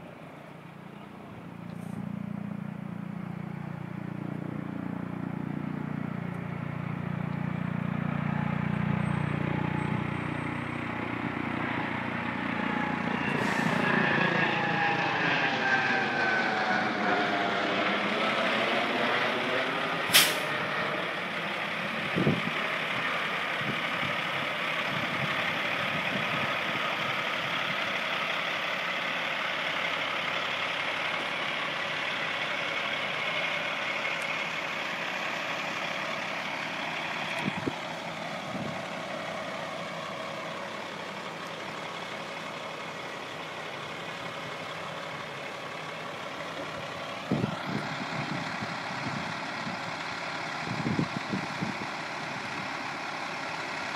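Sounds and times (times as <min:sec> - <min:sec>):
diesel engine idling: 0:00.0 - 0:53.9
helicopter: 0:00.0 - 0:53.9.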